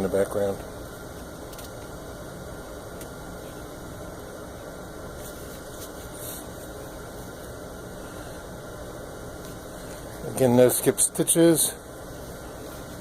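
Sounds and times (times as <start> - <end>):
furnace air rushing: 0.0 - 13.0.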